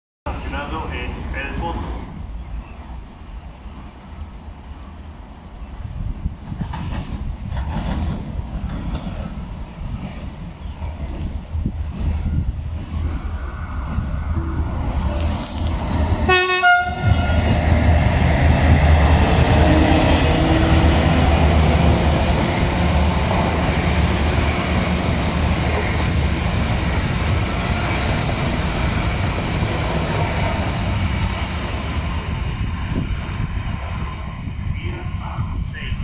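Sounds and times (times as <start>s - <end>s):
train rumbling over rails: 0.3s - 36.0s.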